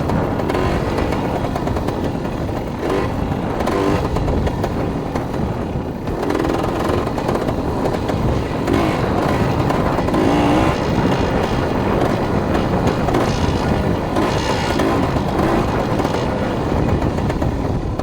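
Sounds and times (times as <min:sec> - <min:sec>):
dirt bike engine revving: 0:00.0 - 0:17.8.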